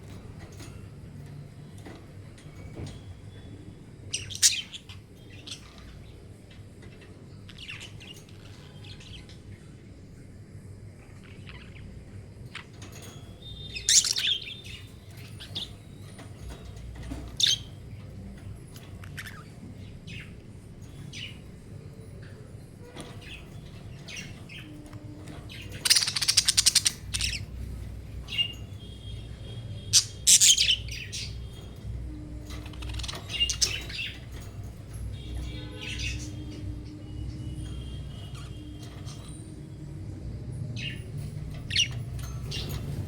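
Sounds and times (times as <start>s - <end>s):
budgerigars chirping and chattering: 4.1s - 9.7s, 11.1s - 40.0s, 40.7s - 43.0s.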